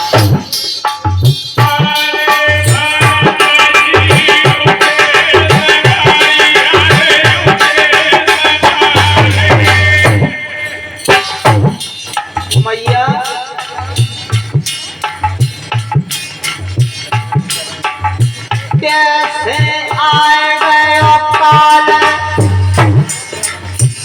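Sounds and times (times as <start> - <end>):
drum beat with sharp strikes: 0.0 - 24.0.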